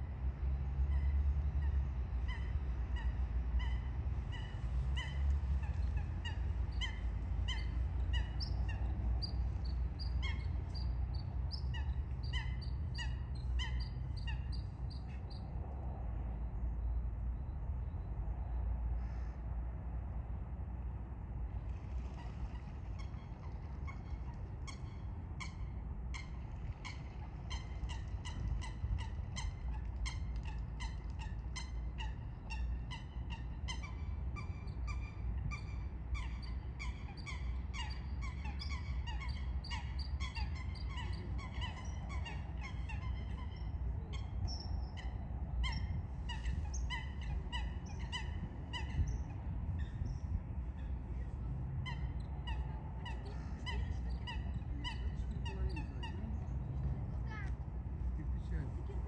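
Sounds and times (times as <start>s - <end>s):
birds calling: 0.8s - 15.6s, 21.5s - 57.4s.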